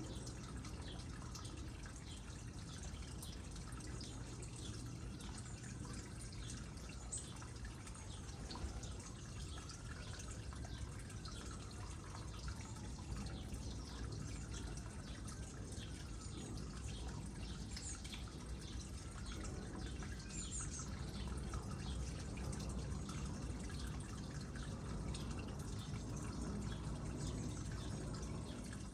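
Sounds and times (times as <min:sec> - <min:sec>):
drips and plinks: 0:00.0 - 0:28.9
water trickling into pond: 0:00.0 - 0:28.9.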